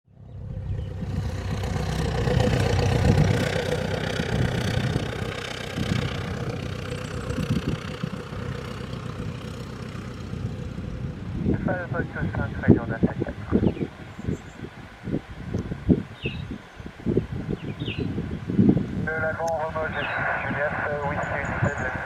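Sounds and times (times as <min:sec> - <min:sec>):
jet engines rumbling: 0:00.2 - 0:22.0.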